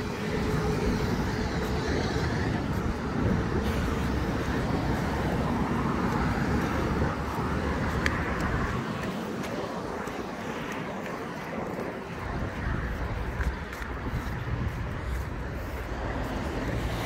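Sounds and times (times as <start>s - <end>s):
passing vehicle rumble: 0.0s - 17.0s.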